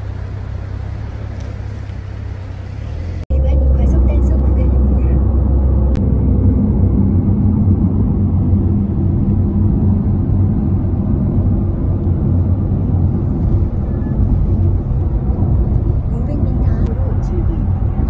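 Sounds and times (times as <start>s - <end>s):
car cabin road noise at speed: 0.0s - 18.0s.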